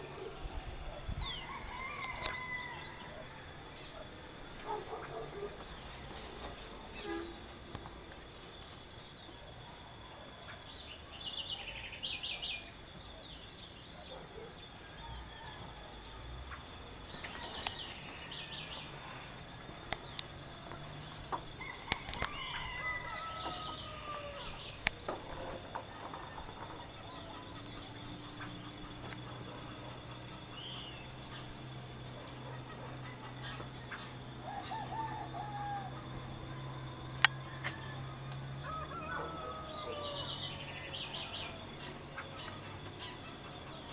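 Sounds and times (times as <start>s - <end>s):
birds trilling and chirping: 0.0s - 43.9s.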